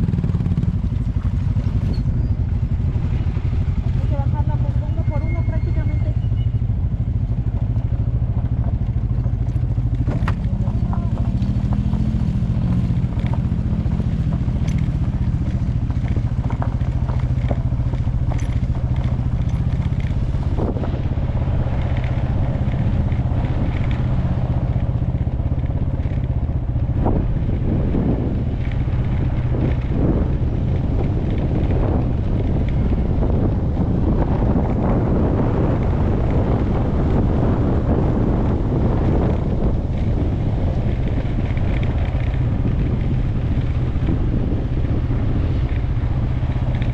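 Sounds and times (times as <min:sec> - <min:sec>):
motorcycle engine at low revs: 0:00.0 - 0:46.9
tyres crunching over dirt: 0:07.4 - 0:46.9.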